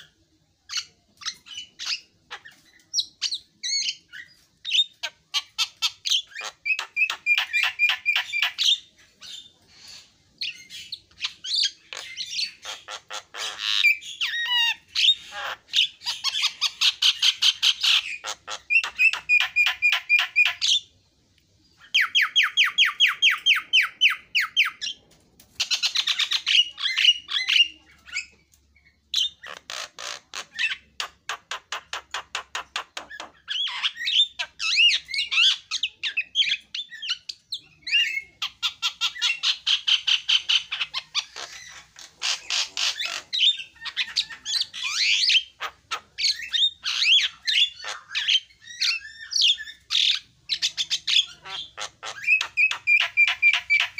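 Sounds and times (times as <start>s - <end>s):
myna bird singing: 0.0s - 53.9s.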